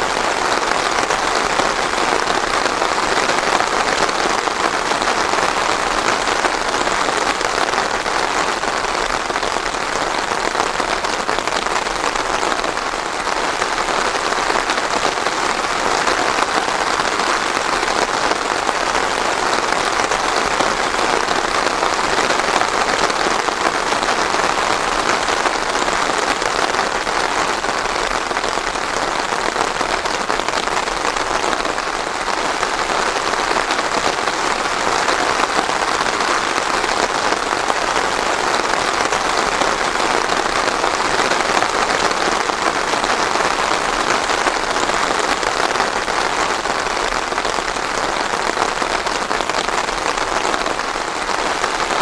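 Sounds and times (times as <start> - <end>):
heavy rain on a surface: 0.0 - 52.0.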